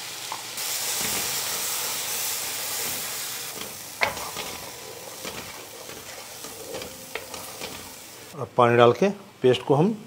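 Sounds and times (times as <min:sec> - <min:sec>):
paste sizzling in hot ghee: 0:00.0 - 0:08.4.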